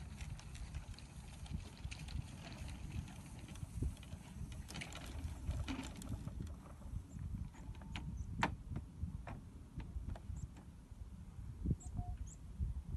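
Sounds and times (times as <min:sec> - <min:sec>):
wind rumble on microphone: 0:00.0 - 0:12.9.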